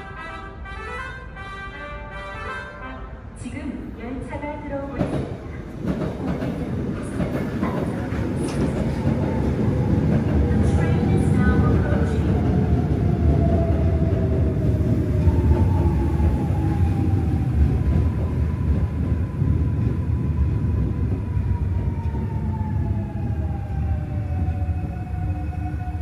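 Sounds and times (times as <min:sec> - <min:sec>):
electric train rumble: 0:04.1 - 0:26.0.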